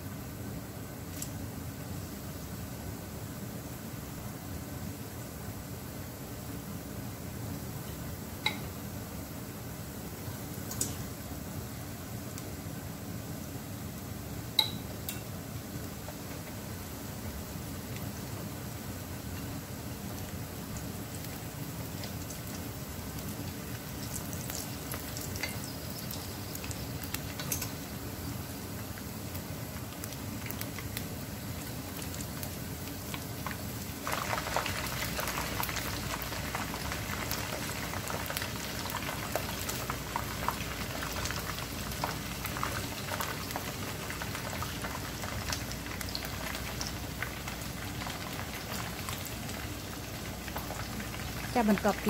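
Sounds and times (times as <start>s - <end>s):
chicken deep-frying in oil: 0.0s - 52.0s.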